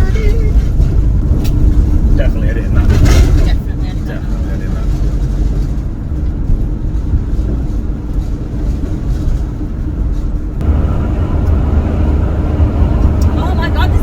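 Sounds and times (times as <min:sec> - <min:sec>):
road noise: 0:00.0 - 0:14.0
van engine drone: 0:00.0 - 0:14.0.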